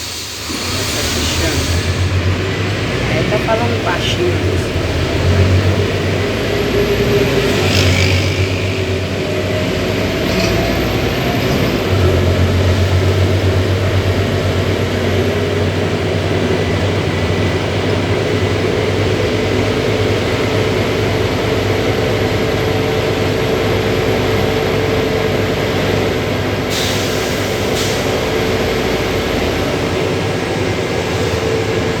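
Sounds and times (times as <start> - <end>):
bus engine droning: 0.0 - 32.0.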